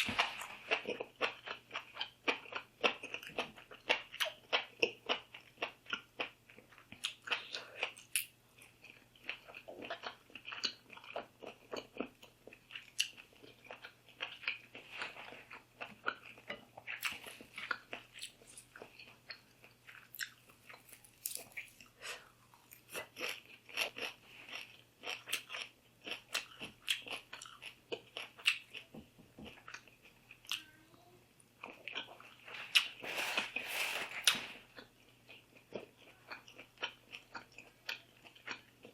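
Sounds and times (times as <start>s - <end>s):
person chewing and crunching: 0.0s - 30.7s, 31.6s - 38.9s.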